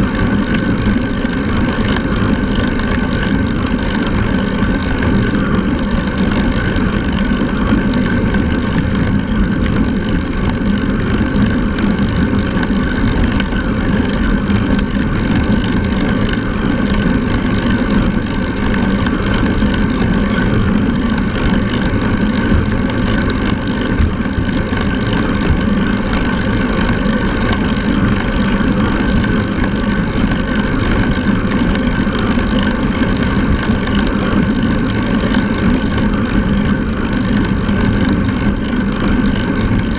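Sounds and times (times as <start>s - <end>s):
tyres humming on asphalt: 0.0s - 39.9s.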